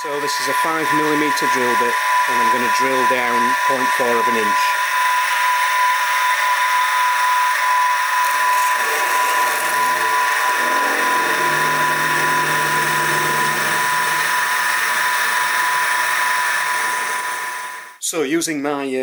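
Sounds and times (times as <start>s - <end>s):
drill bit cutting metal: 0.0s - 18.0s
mill high whine: 0.0s - 18.0s.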